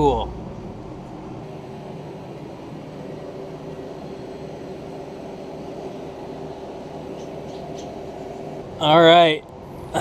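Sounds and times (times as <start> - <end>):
faint constant tone: 0.0 - 10.0
low mechanical hum: 0.0 - 10.0.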